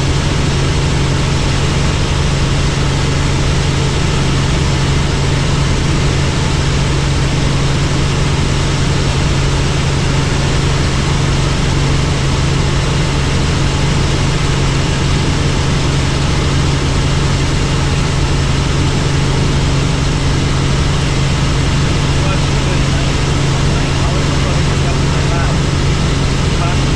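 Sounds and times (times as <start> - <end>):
helicopter cabin drone: 0.0 - 26.9.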